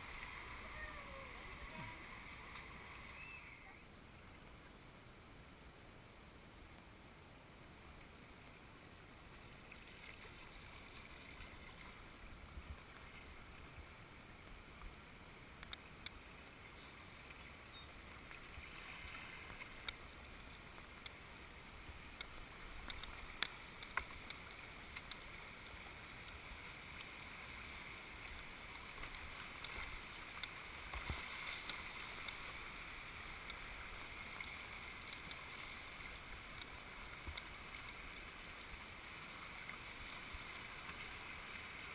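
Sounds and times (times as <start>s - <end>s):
rapids rushing and burbling: 0.0s - 41.9s.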